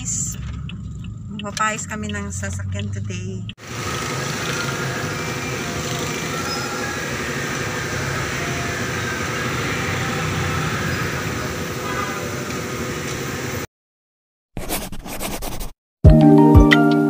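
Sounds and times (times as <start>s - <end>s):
workshop machinery noise: 0.0s - 13.7s.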